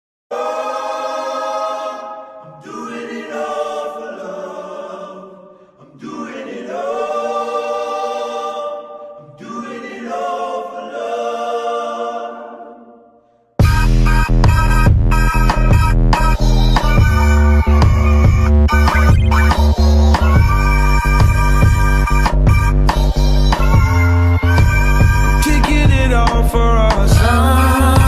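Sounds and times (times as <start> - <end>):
choir holding long chords: 0.3 - 25.6.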